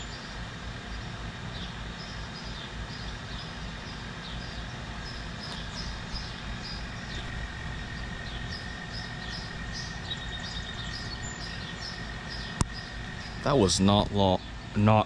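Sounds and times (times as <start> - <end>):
air conditioner hum: 0.0 - 15.0
birds chirping: 0.0 - 15.0
faint high whine: 0.0 - 15.0.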